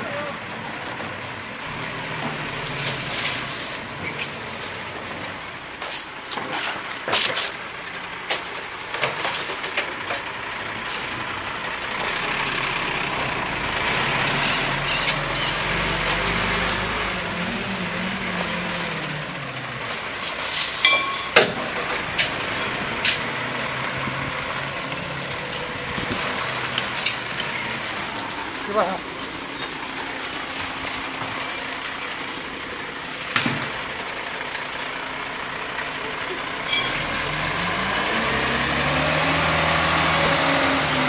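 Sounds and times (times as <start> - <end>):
diesel truck engine running: 0.0 - 41.0.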